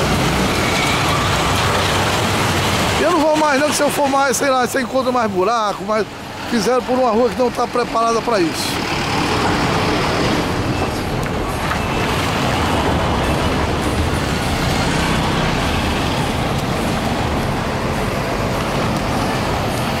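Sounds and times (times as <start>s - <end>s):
motorcycle driving: 0.0s - 4.2s, 8.0s - 20.0s
bus approaching: 0.0s - 20.0s
car driving on rough street: 0.0s - 20.0s.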